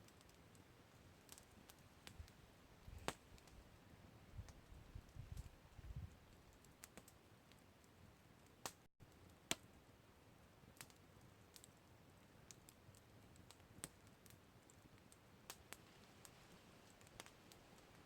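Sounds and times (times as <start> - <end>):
campfire crackling: 0.0 - 18.0
low steady hiss: 0.0 - 18.0.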